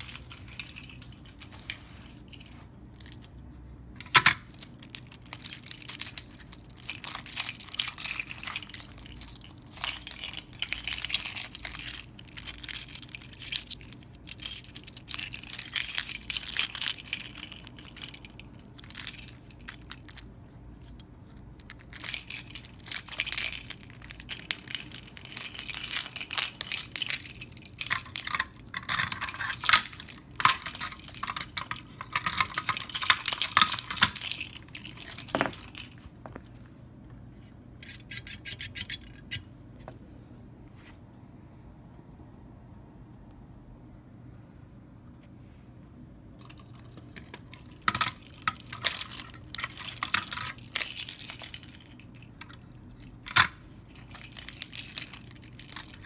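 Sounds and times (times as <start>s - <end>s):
keys jangling: 0.0s - 3.4s, 4.0s - 36.5s, 37.8s - 39.4s, 46.4s - 56.0s.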